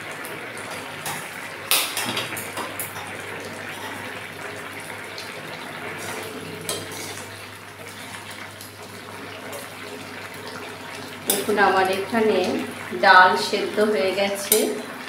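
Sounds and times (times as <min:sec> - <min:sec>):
curry simmering hiss: 0:00.0 - 0:15.0.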